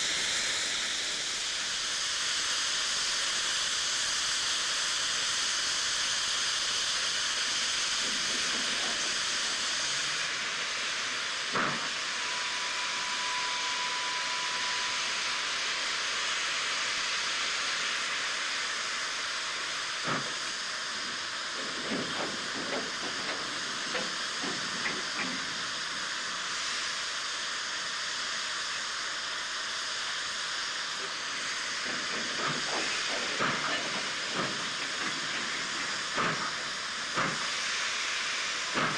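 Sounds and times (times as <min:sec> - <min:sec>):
steam hissing from locomotive: 0:00.0 - 0:38.9.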